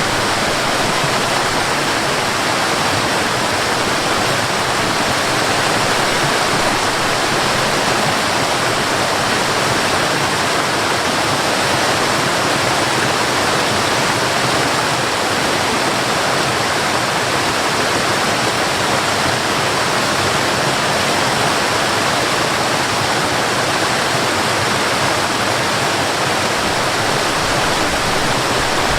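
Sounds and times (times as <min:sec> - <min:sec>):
river rushing over rocks: 0:00.0 - 0:28.9.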